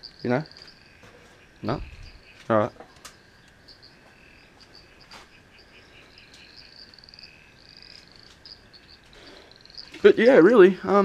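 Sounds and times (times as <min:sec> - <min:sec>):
animals chirping and trilling: 0:00.0 - 0:11.0.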